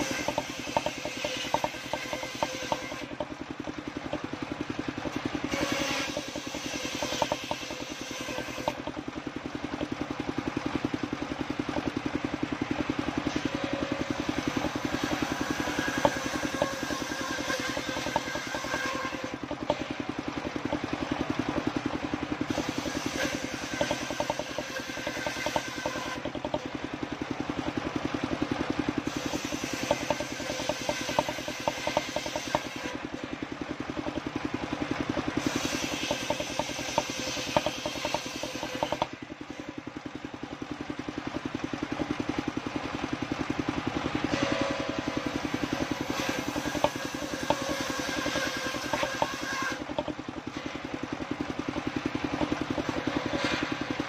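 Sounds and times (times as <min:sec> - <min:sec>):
saw cutting wood: 0:00.0 - 0:42.5, 0:43.4 - 0:54.0
saw bench engine running: 0:00.0 - 0:54.0.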